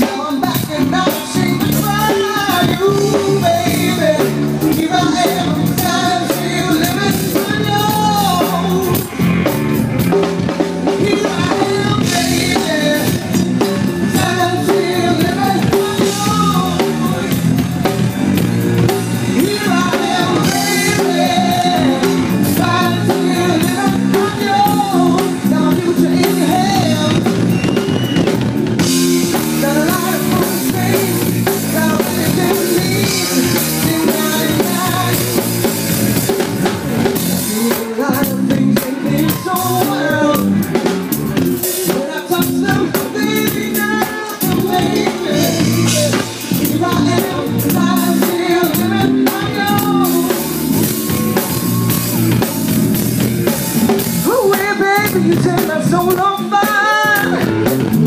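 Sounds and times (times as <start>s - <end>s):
drum kit: 0.0s - 58.0s
person singing with live band: 0.0s - 58.0s.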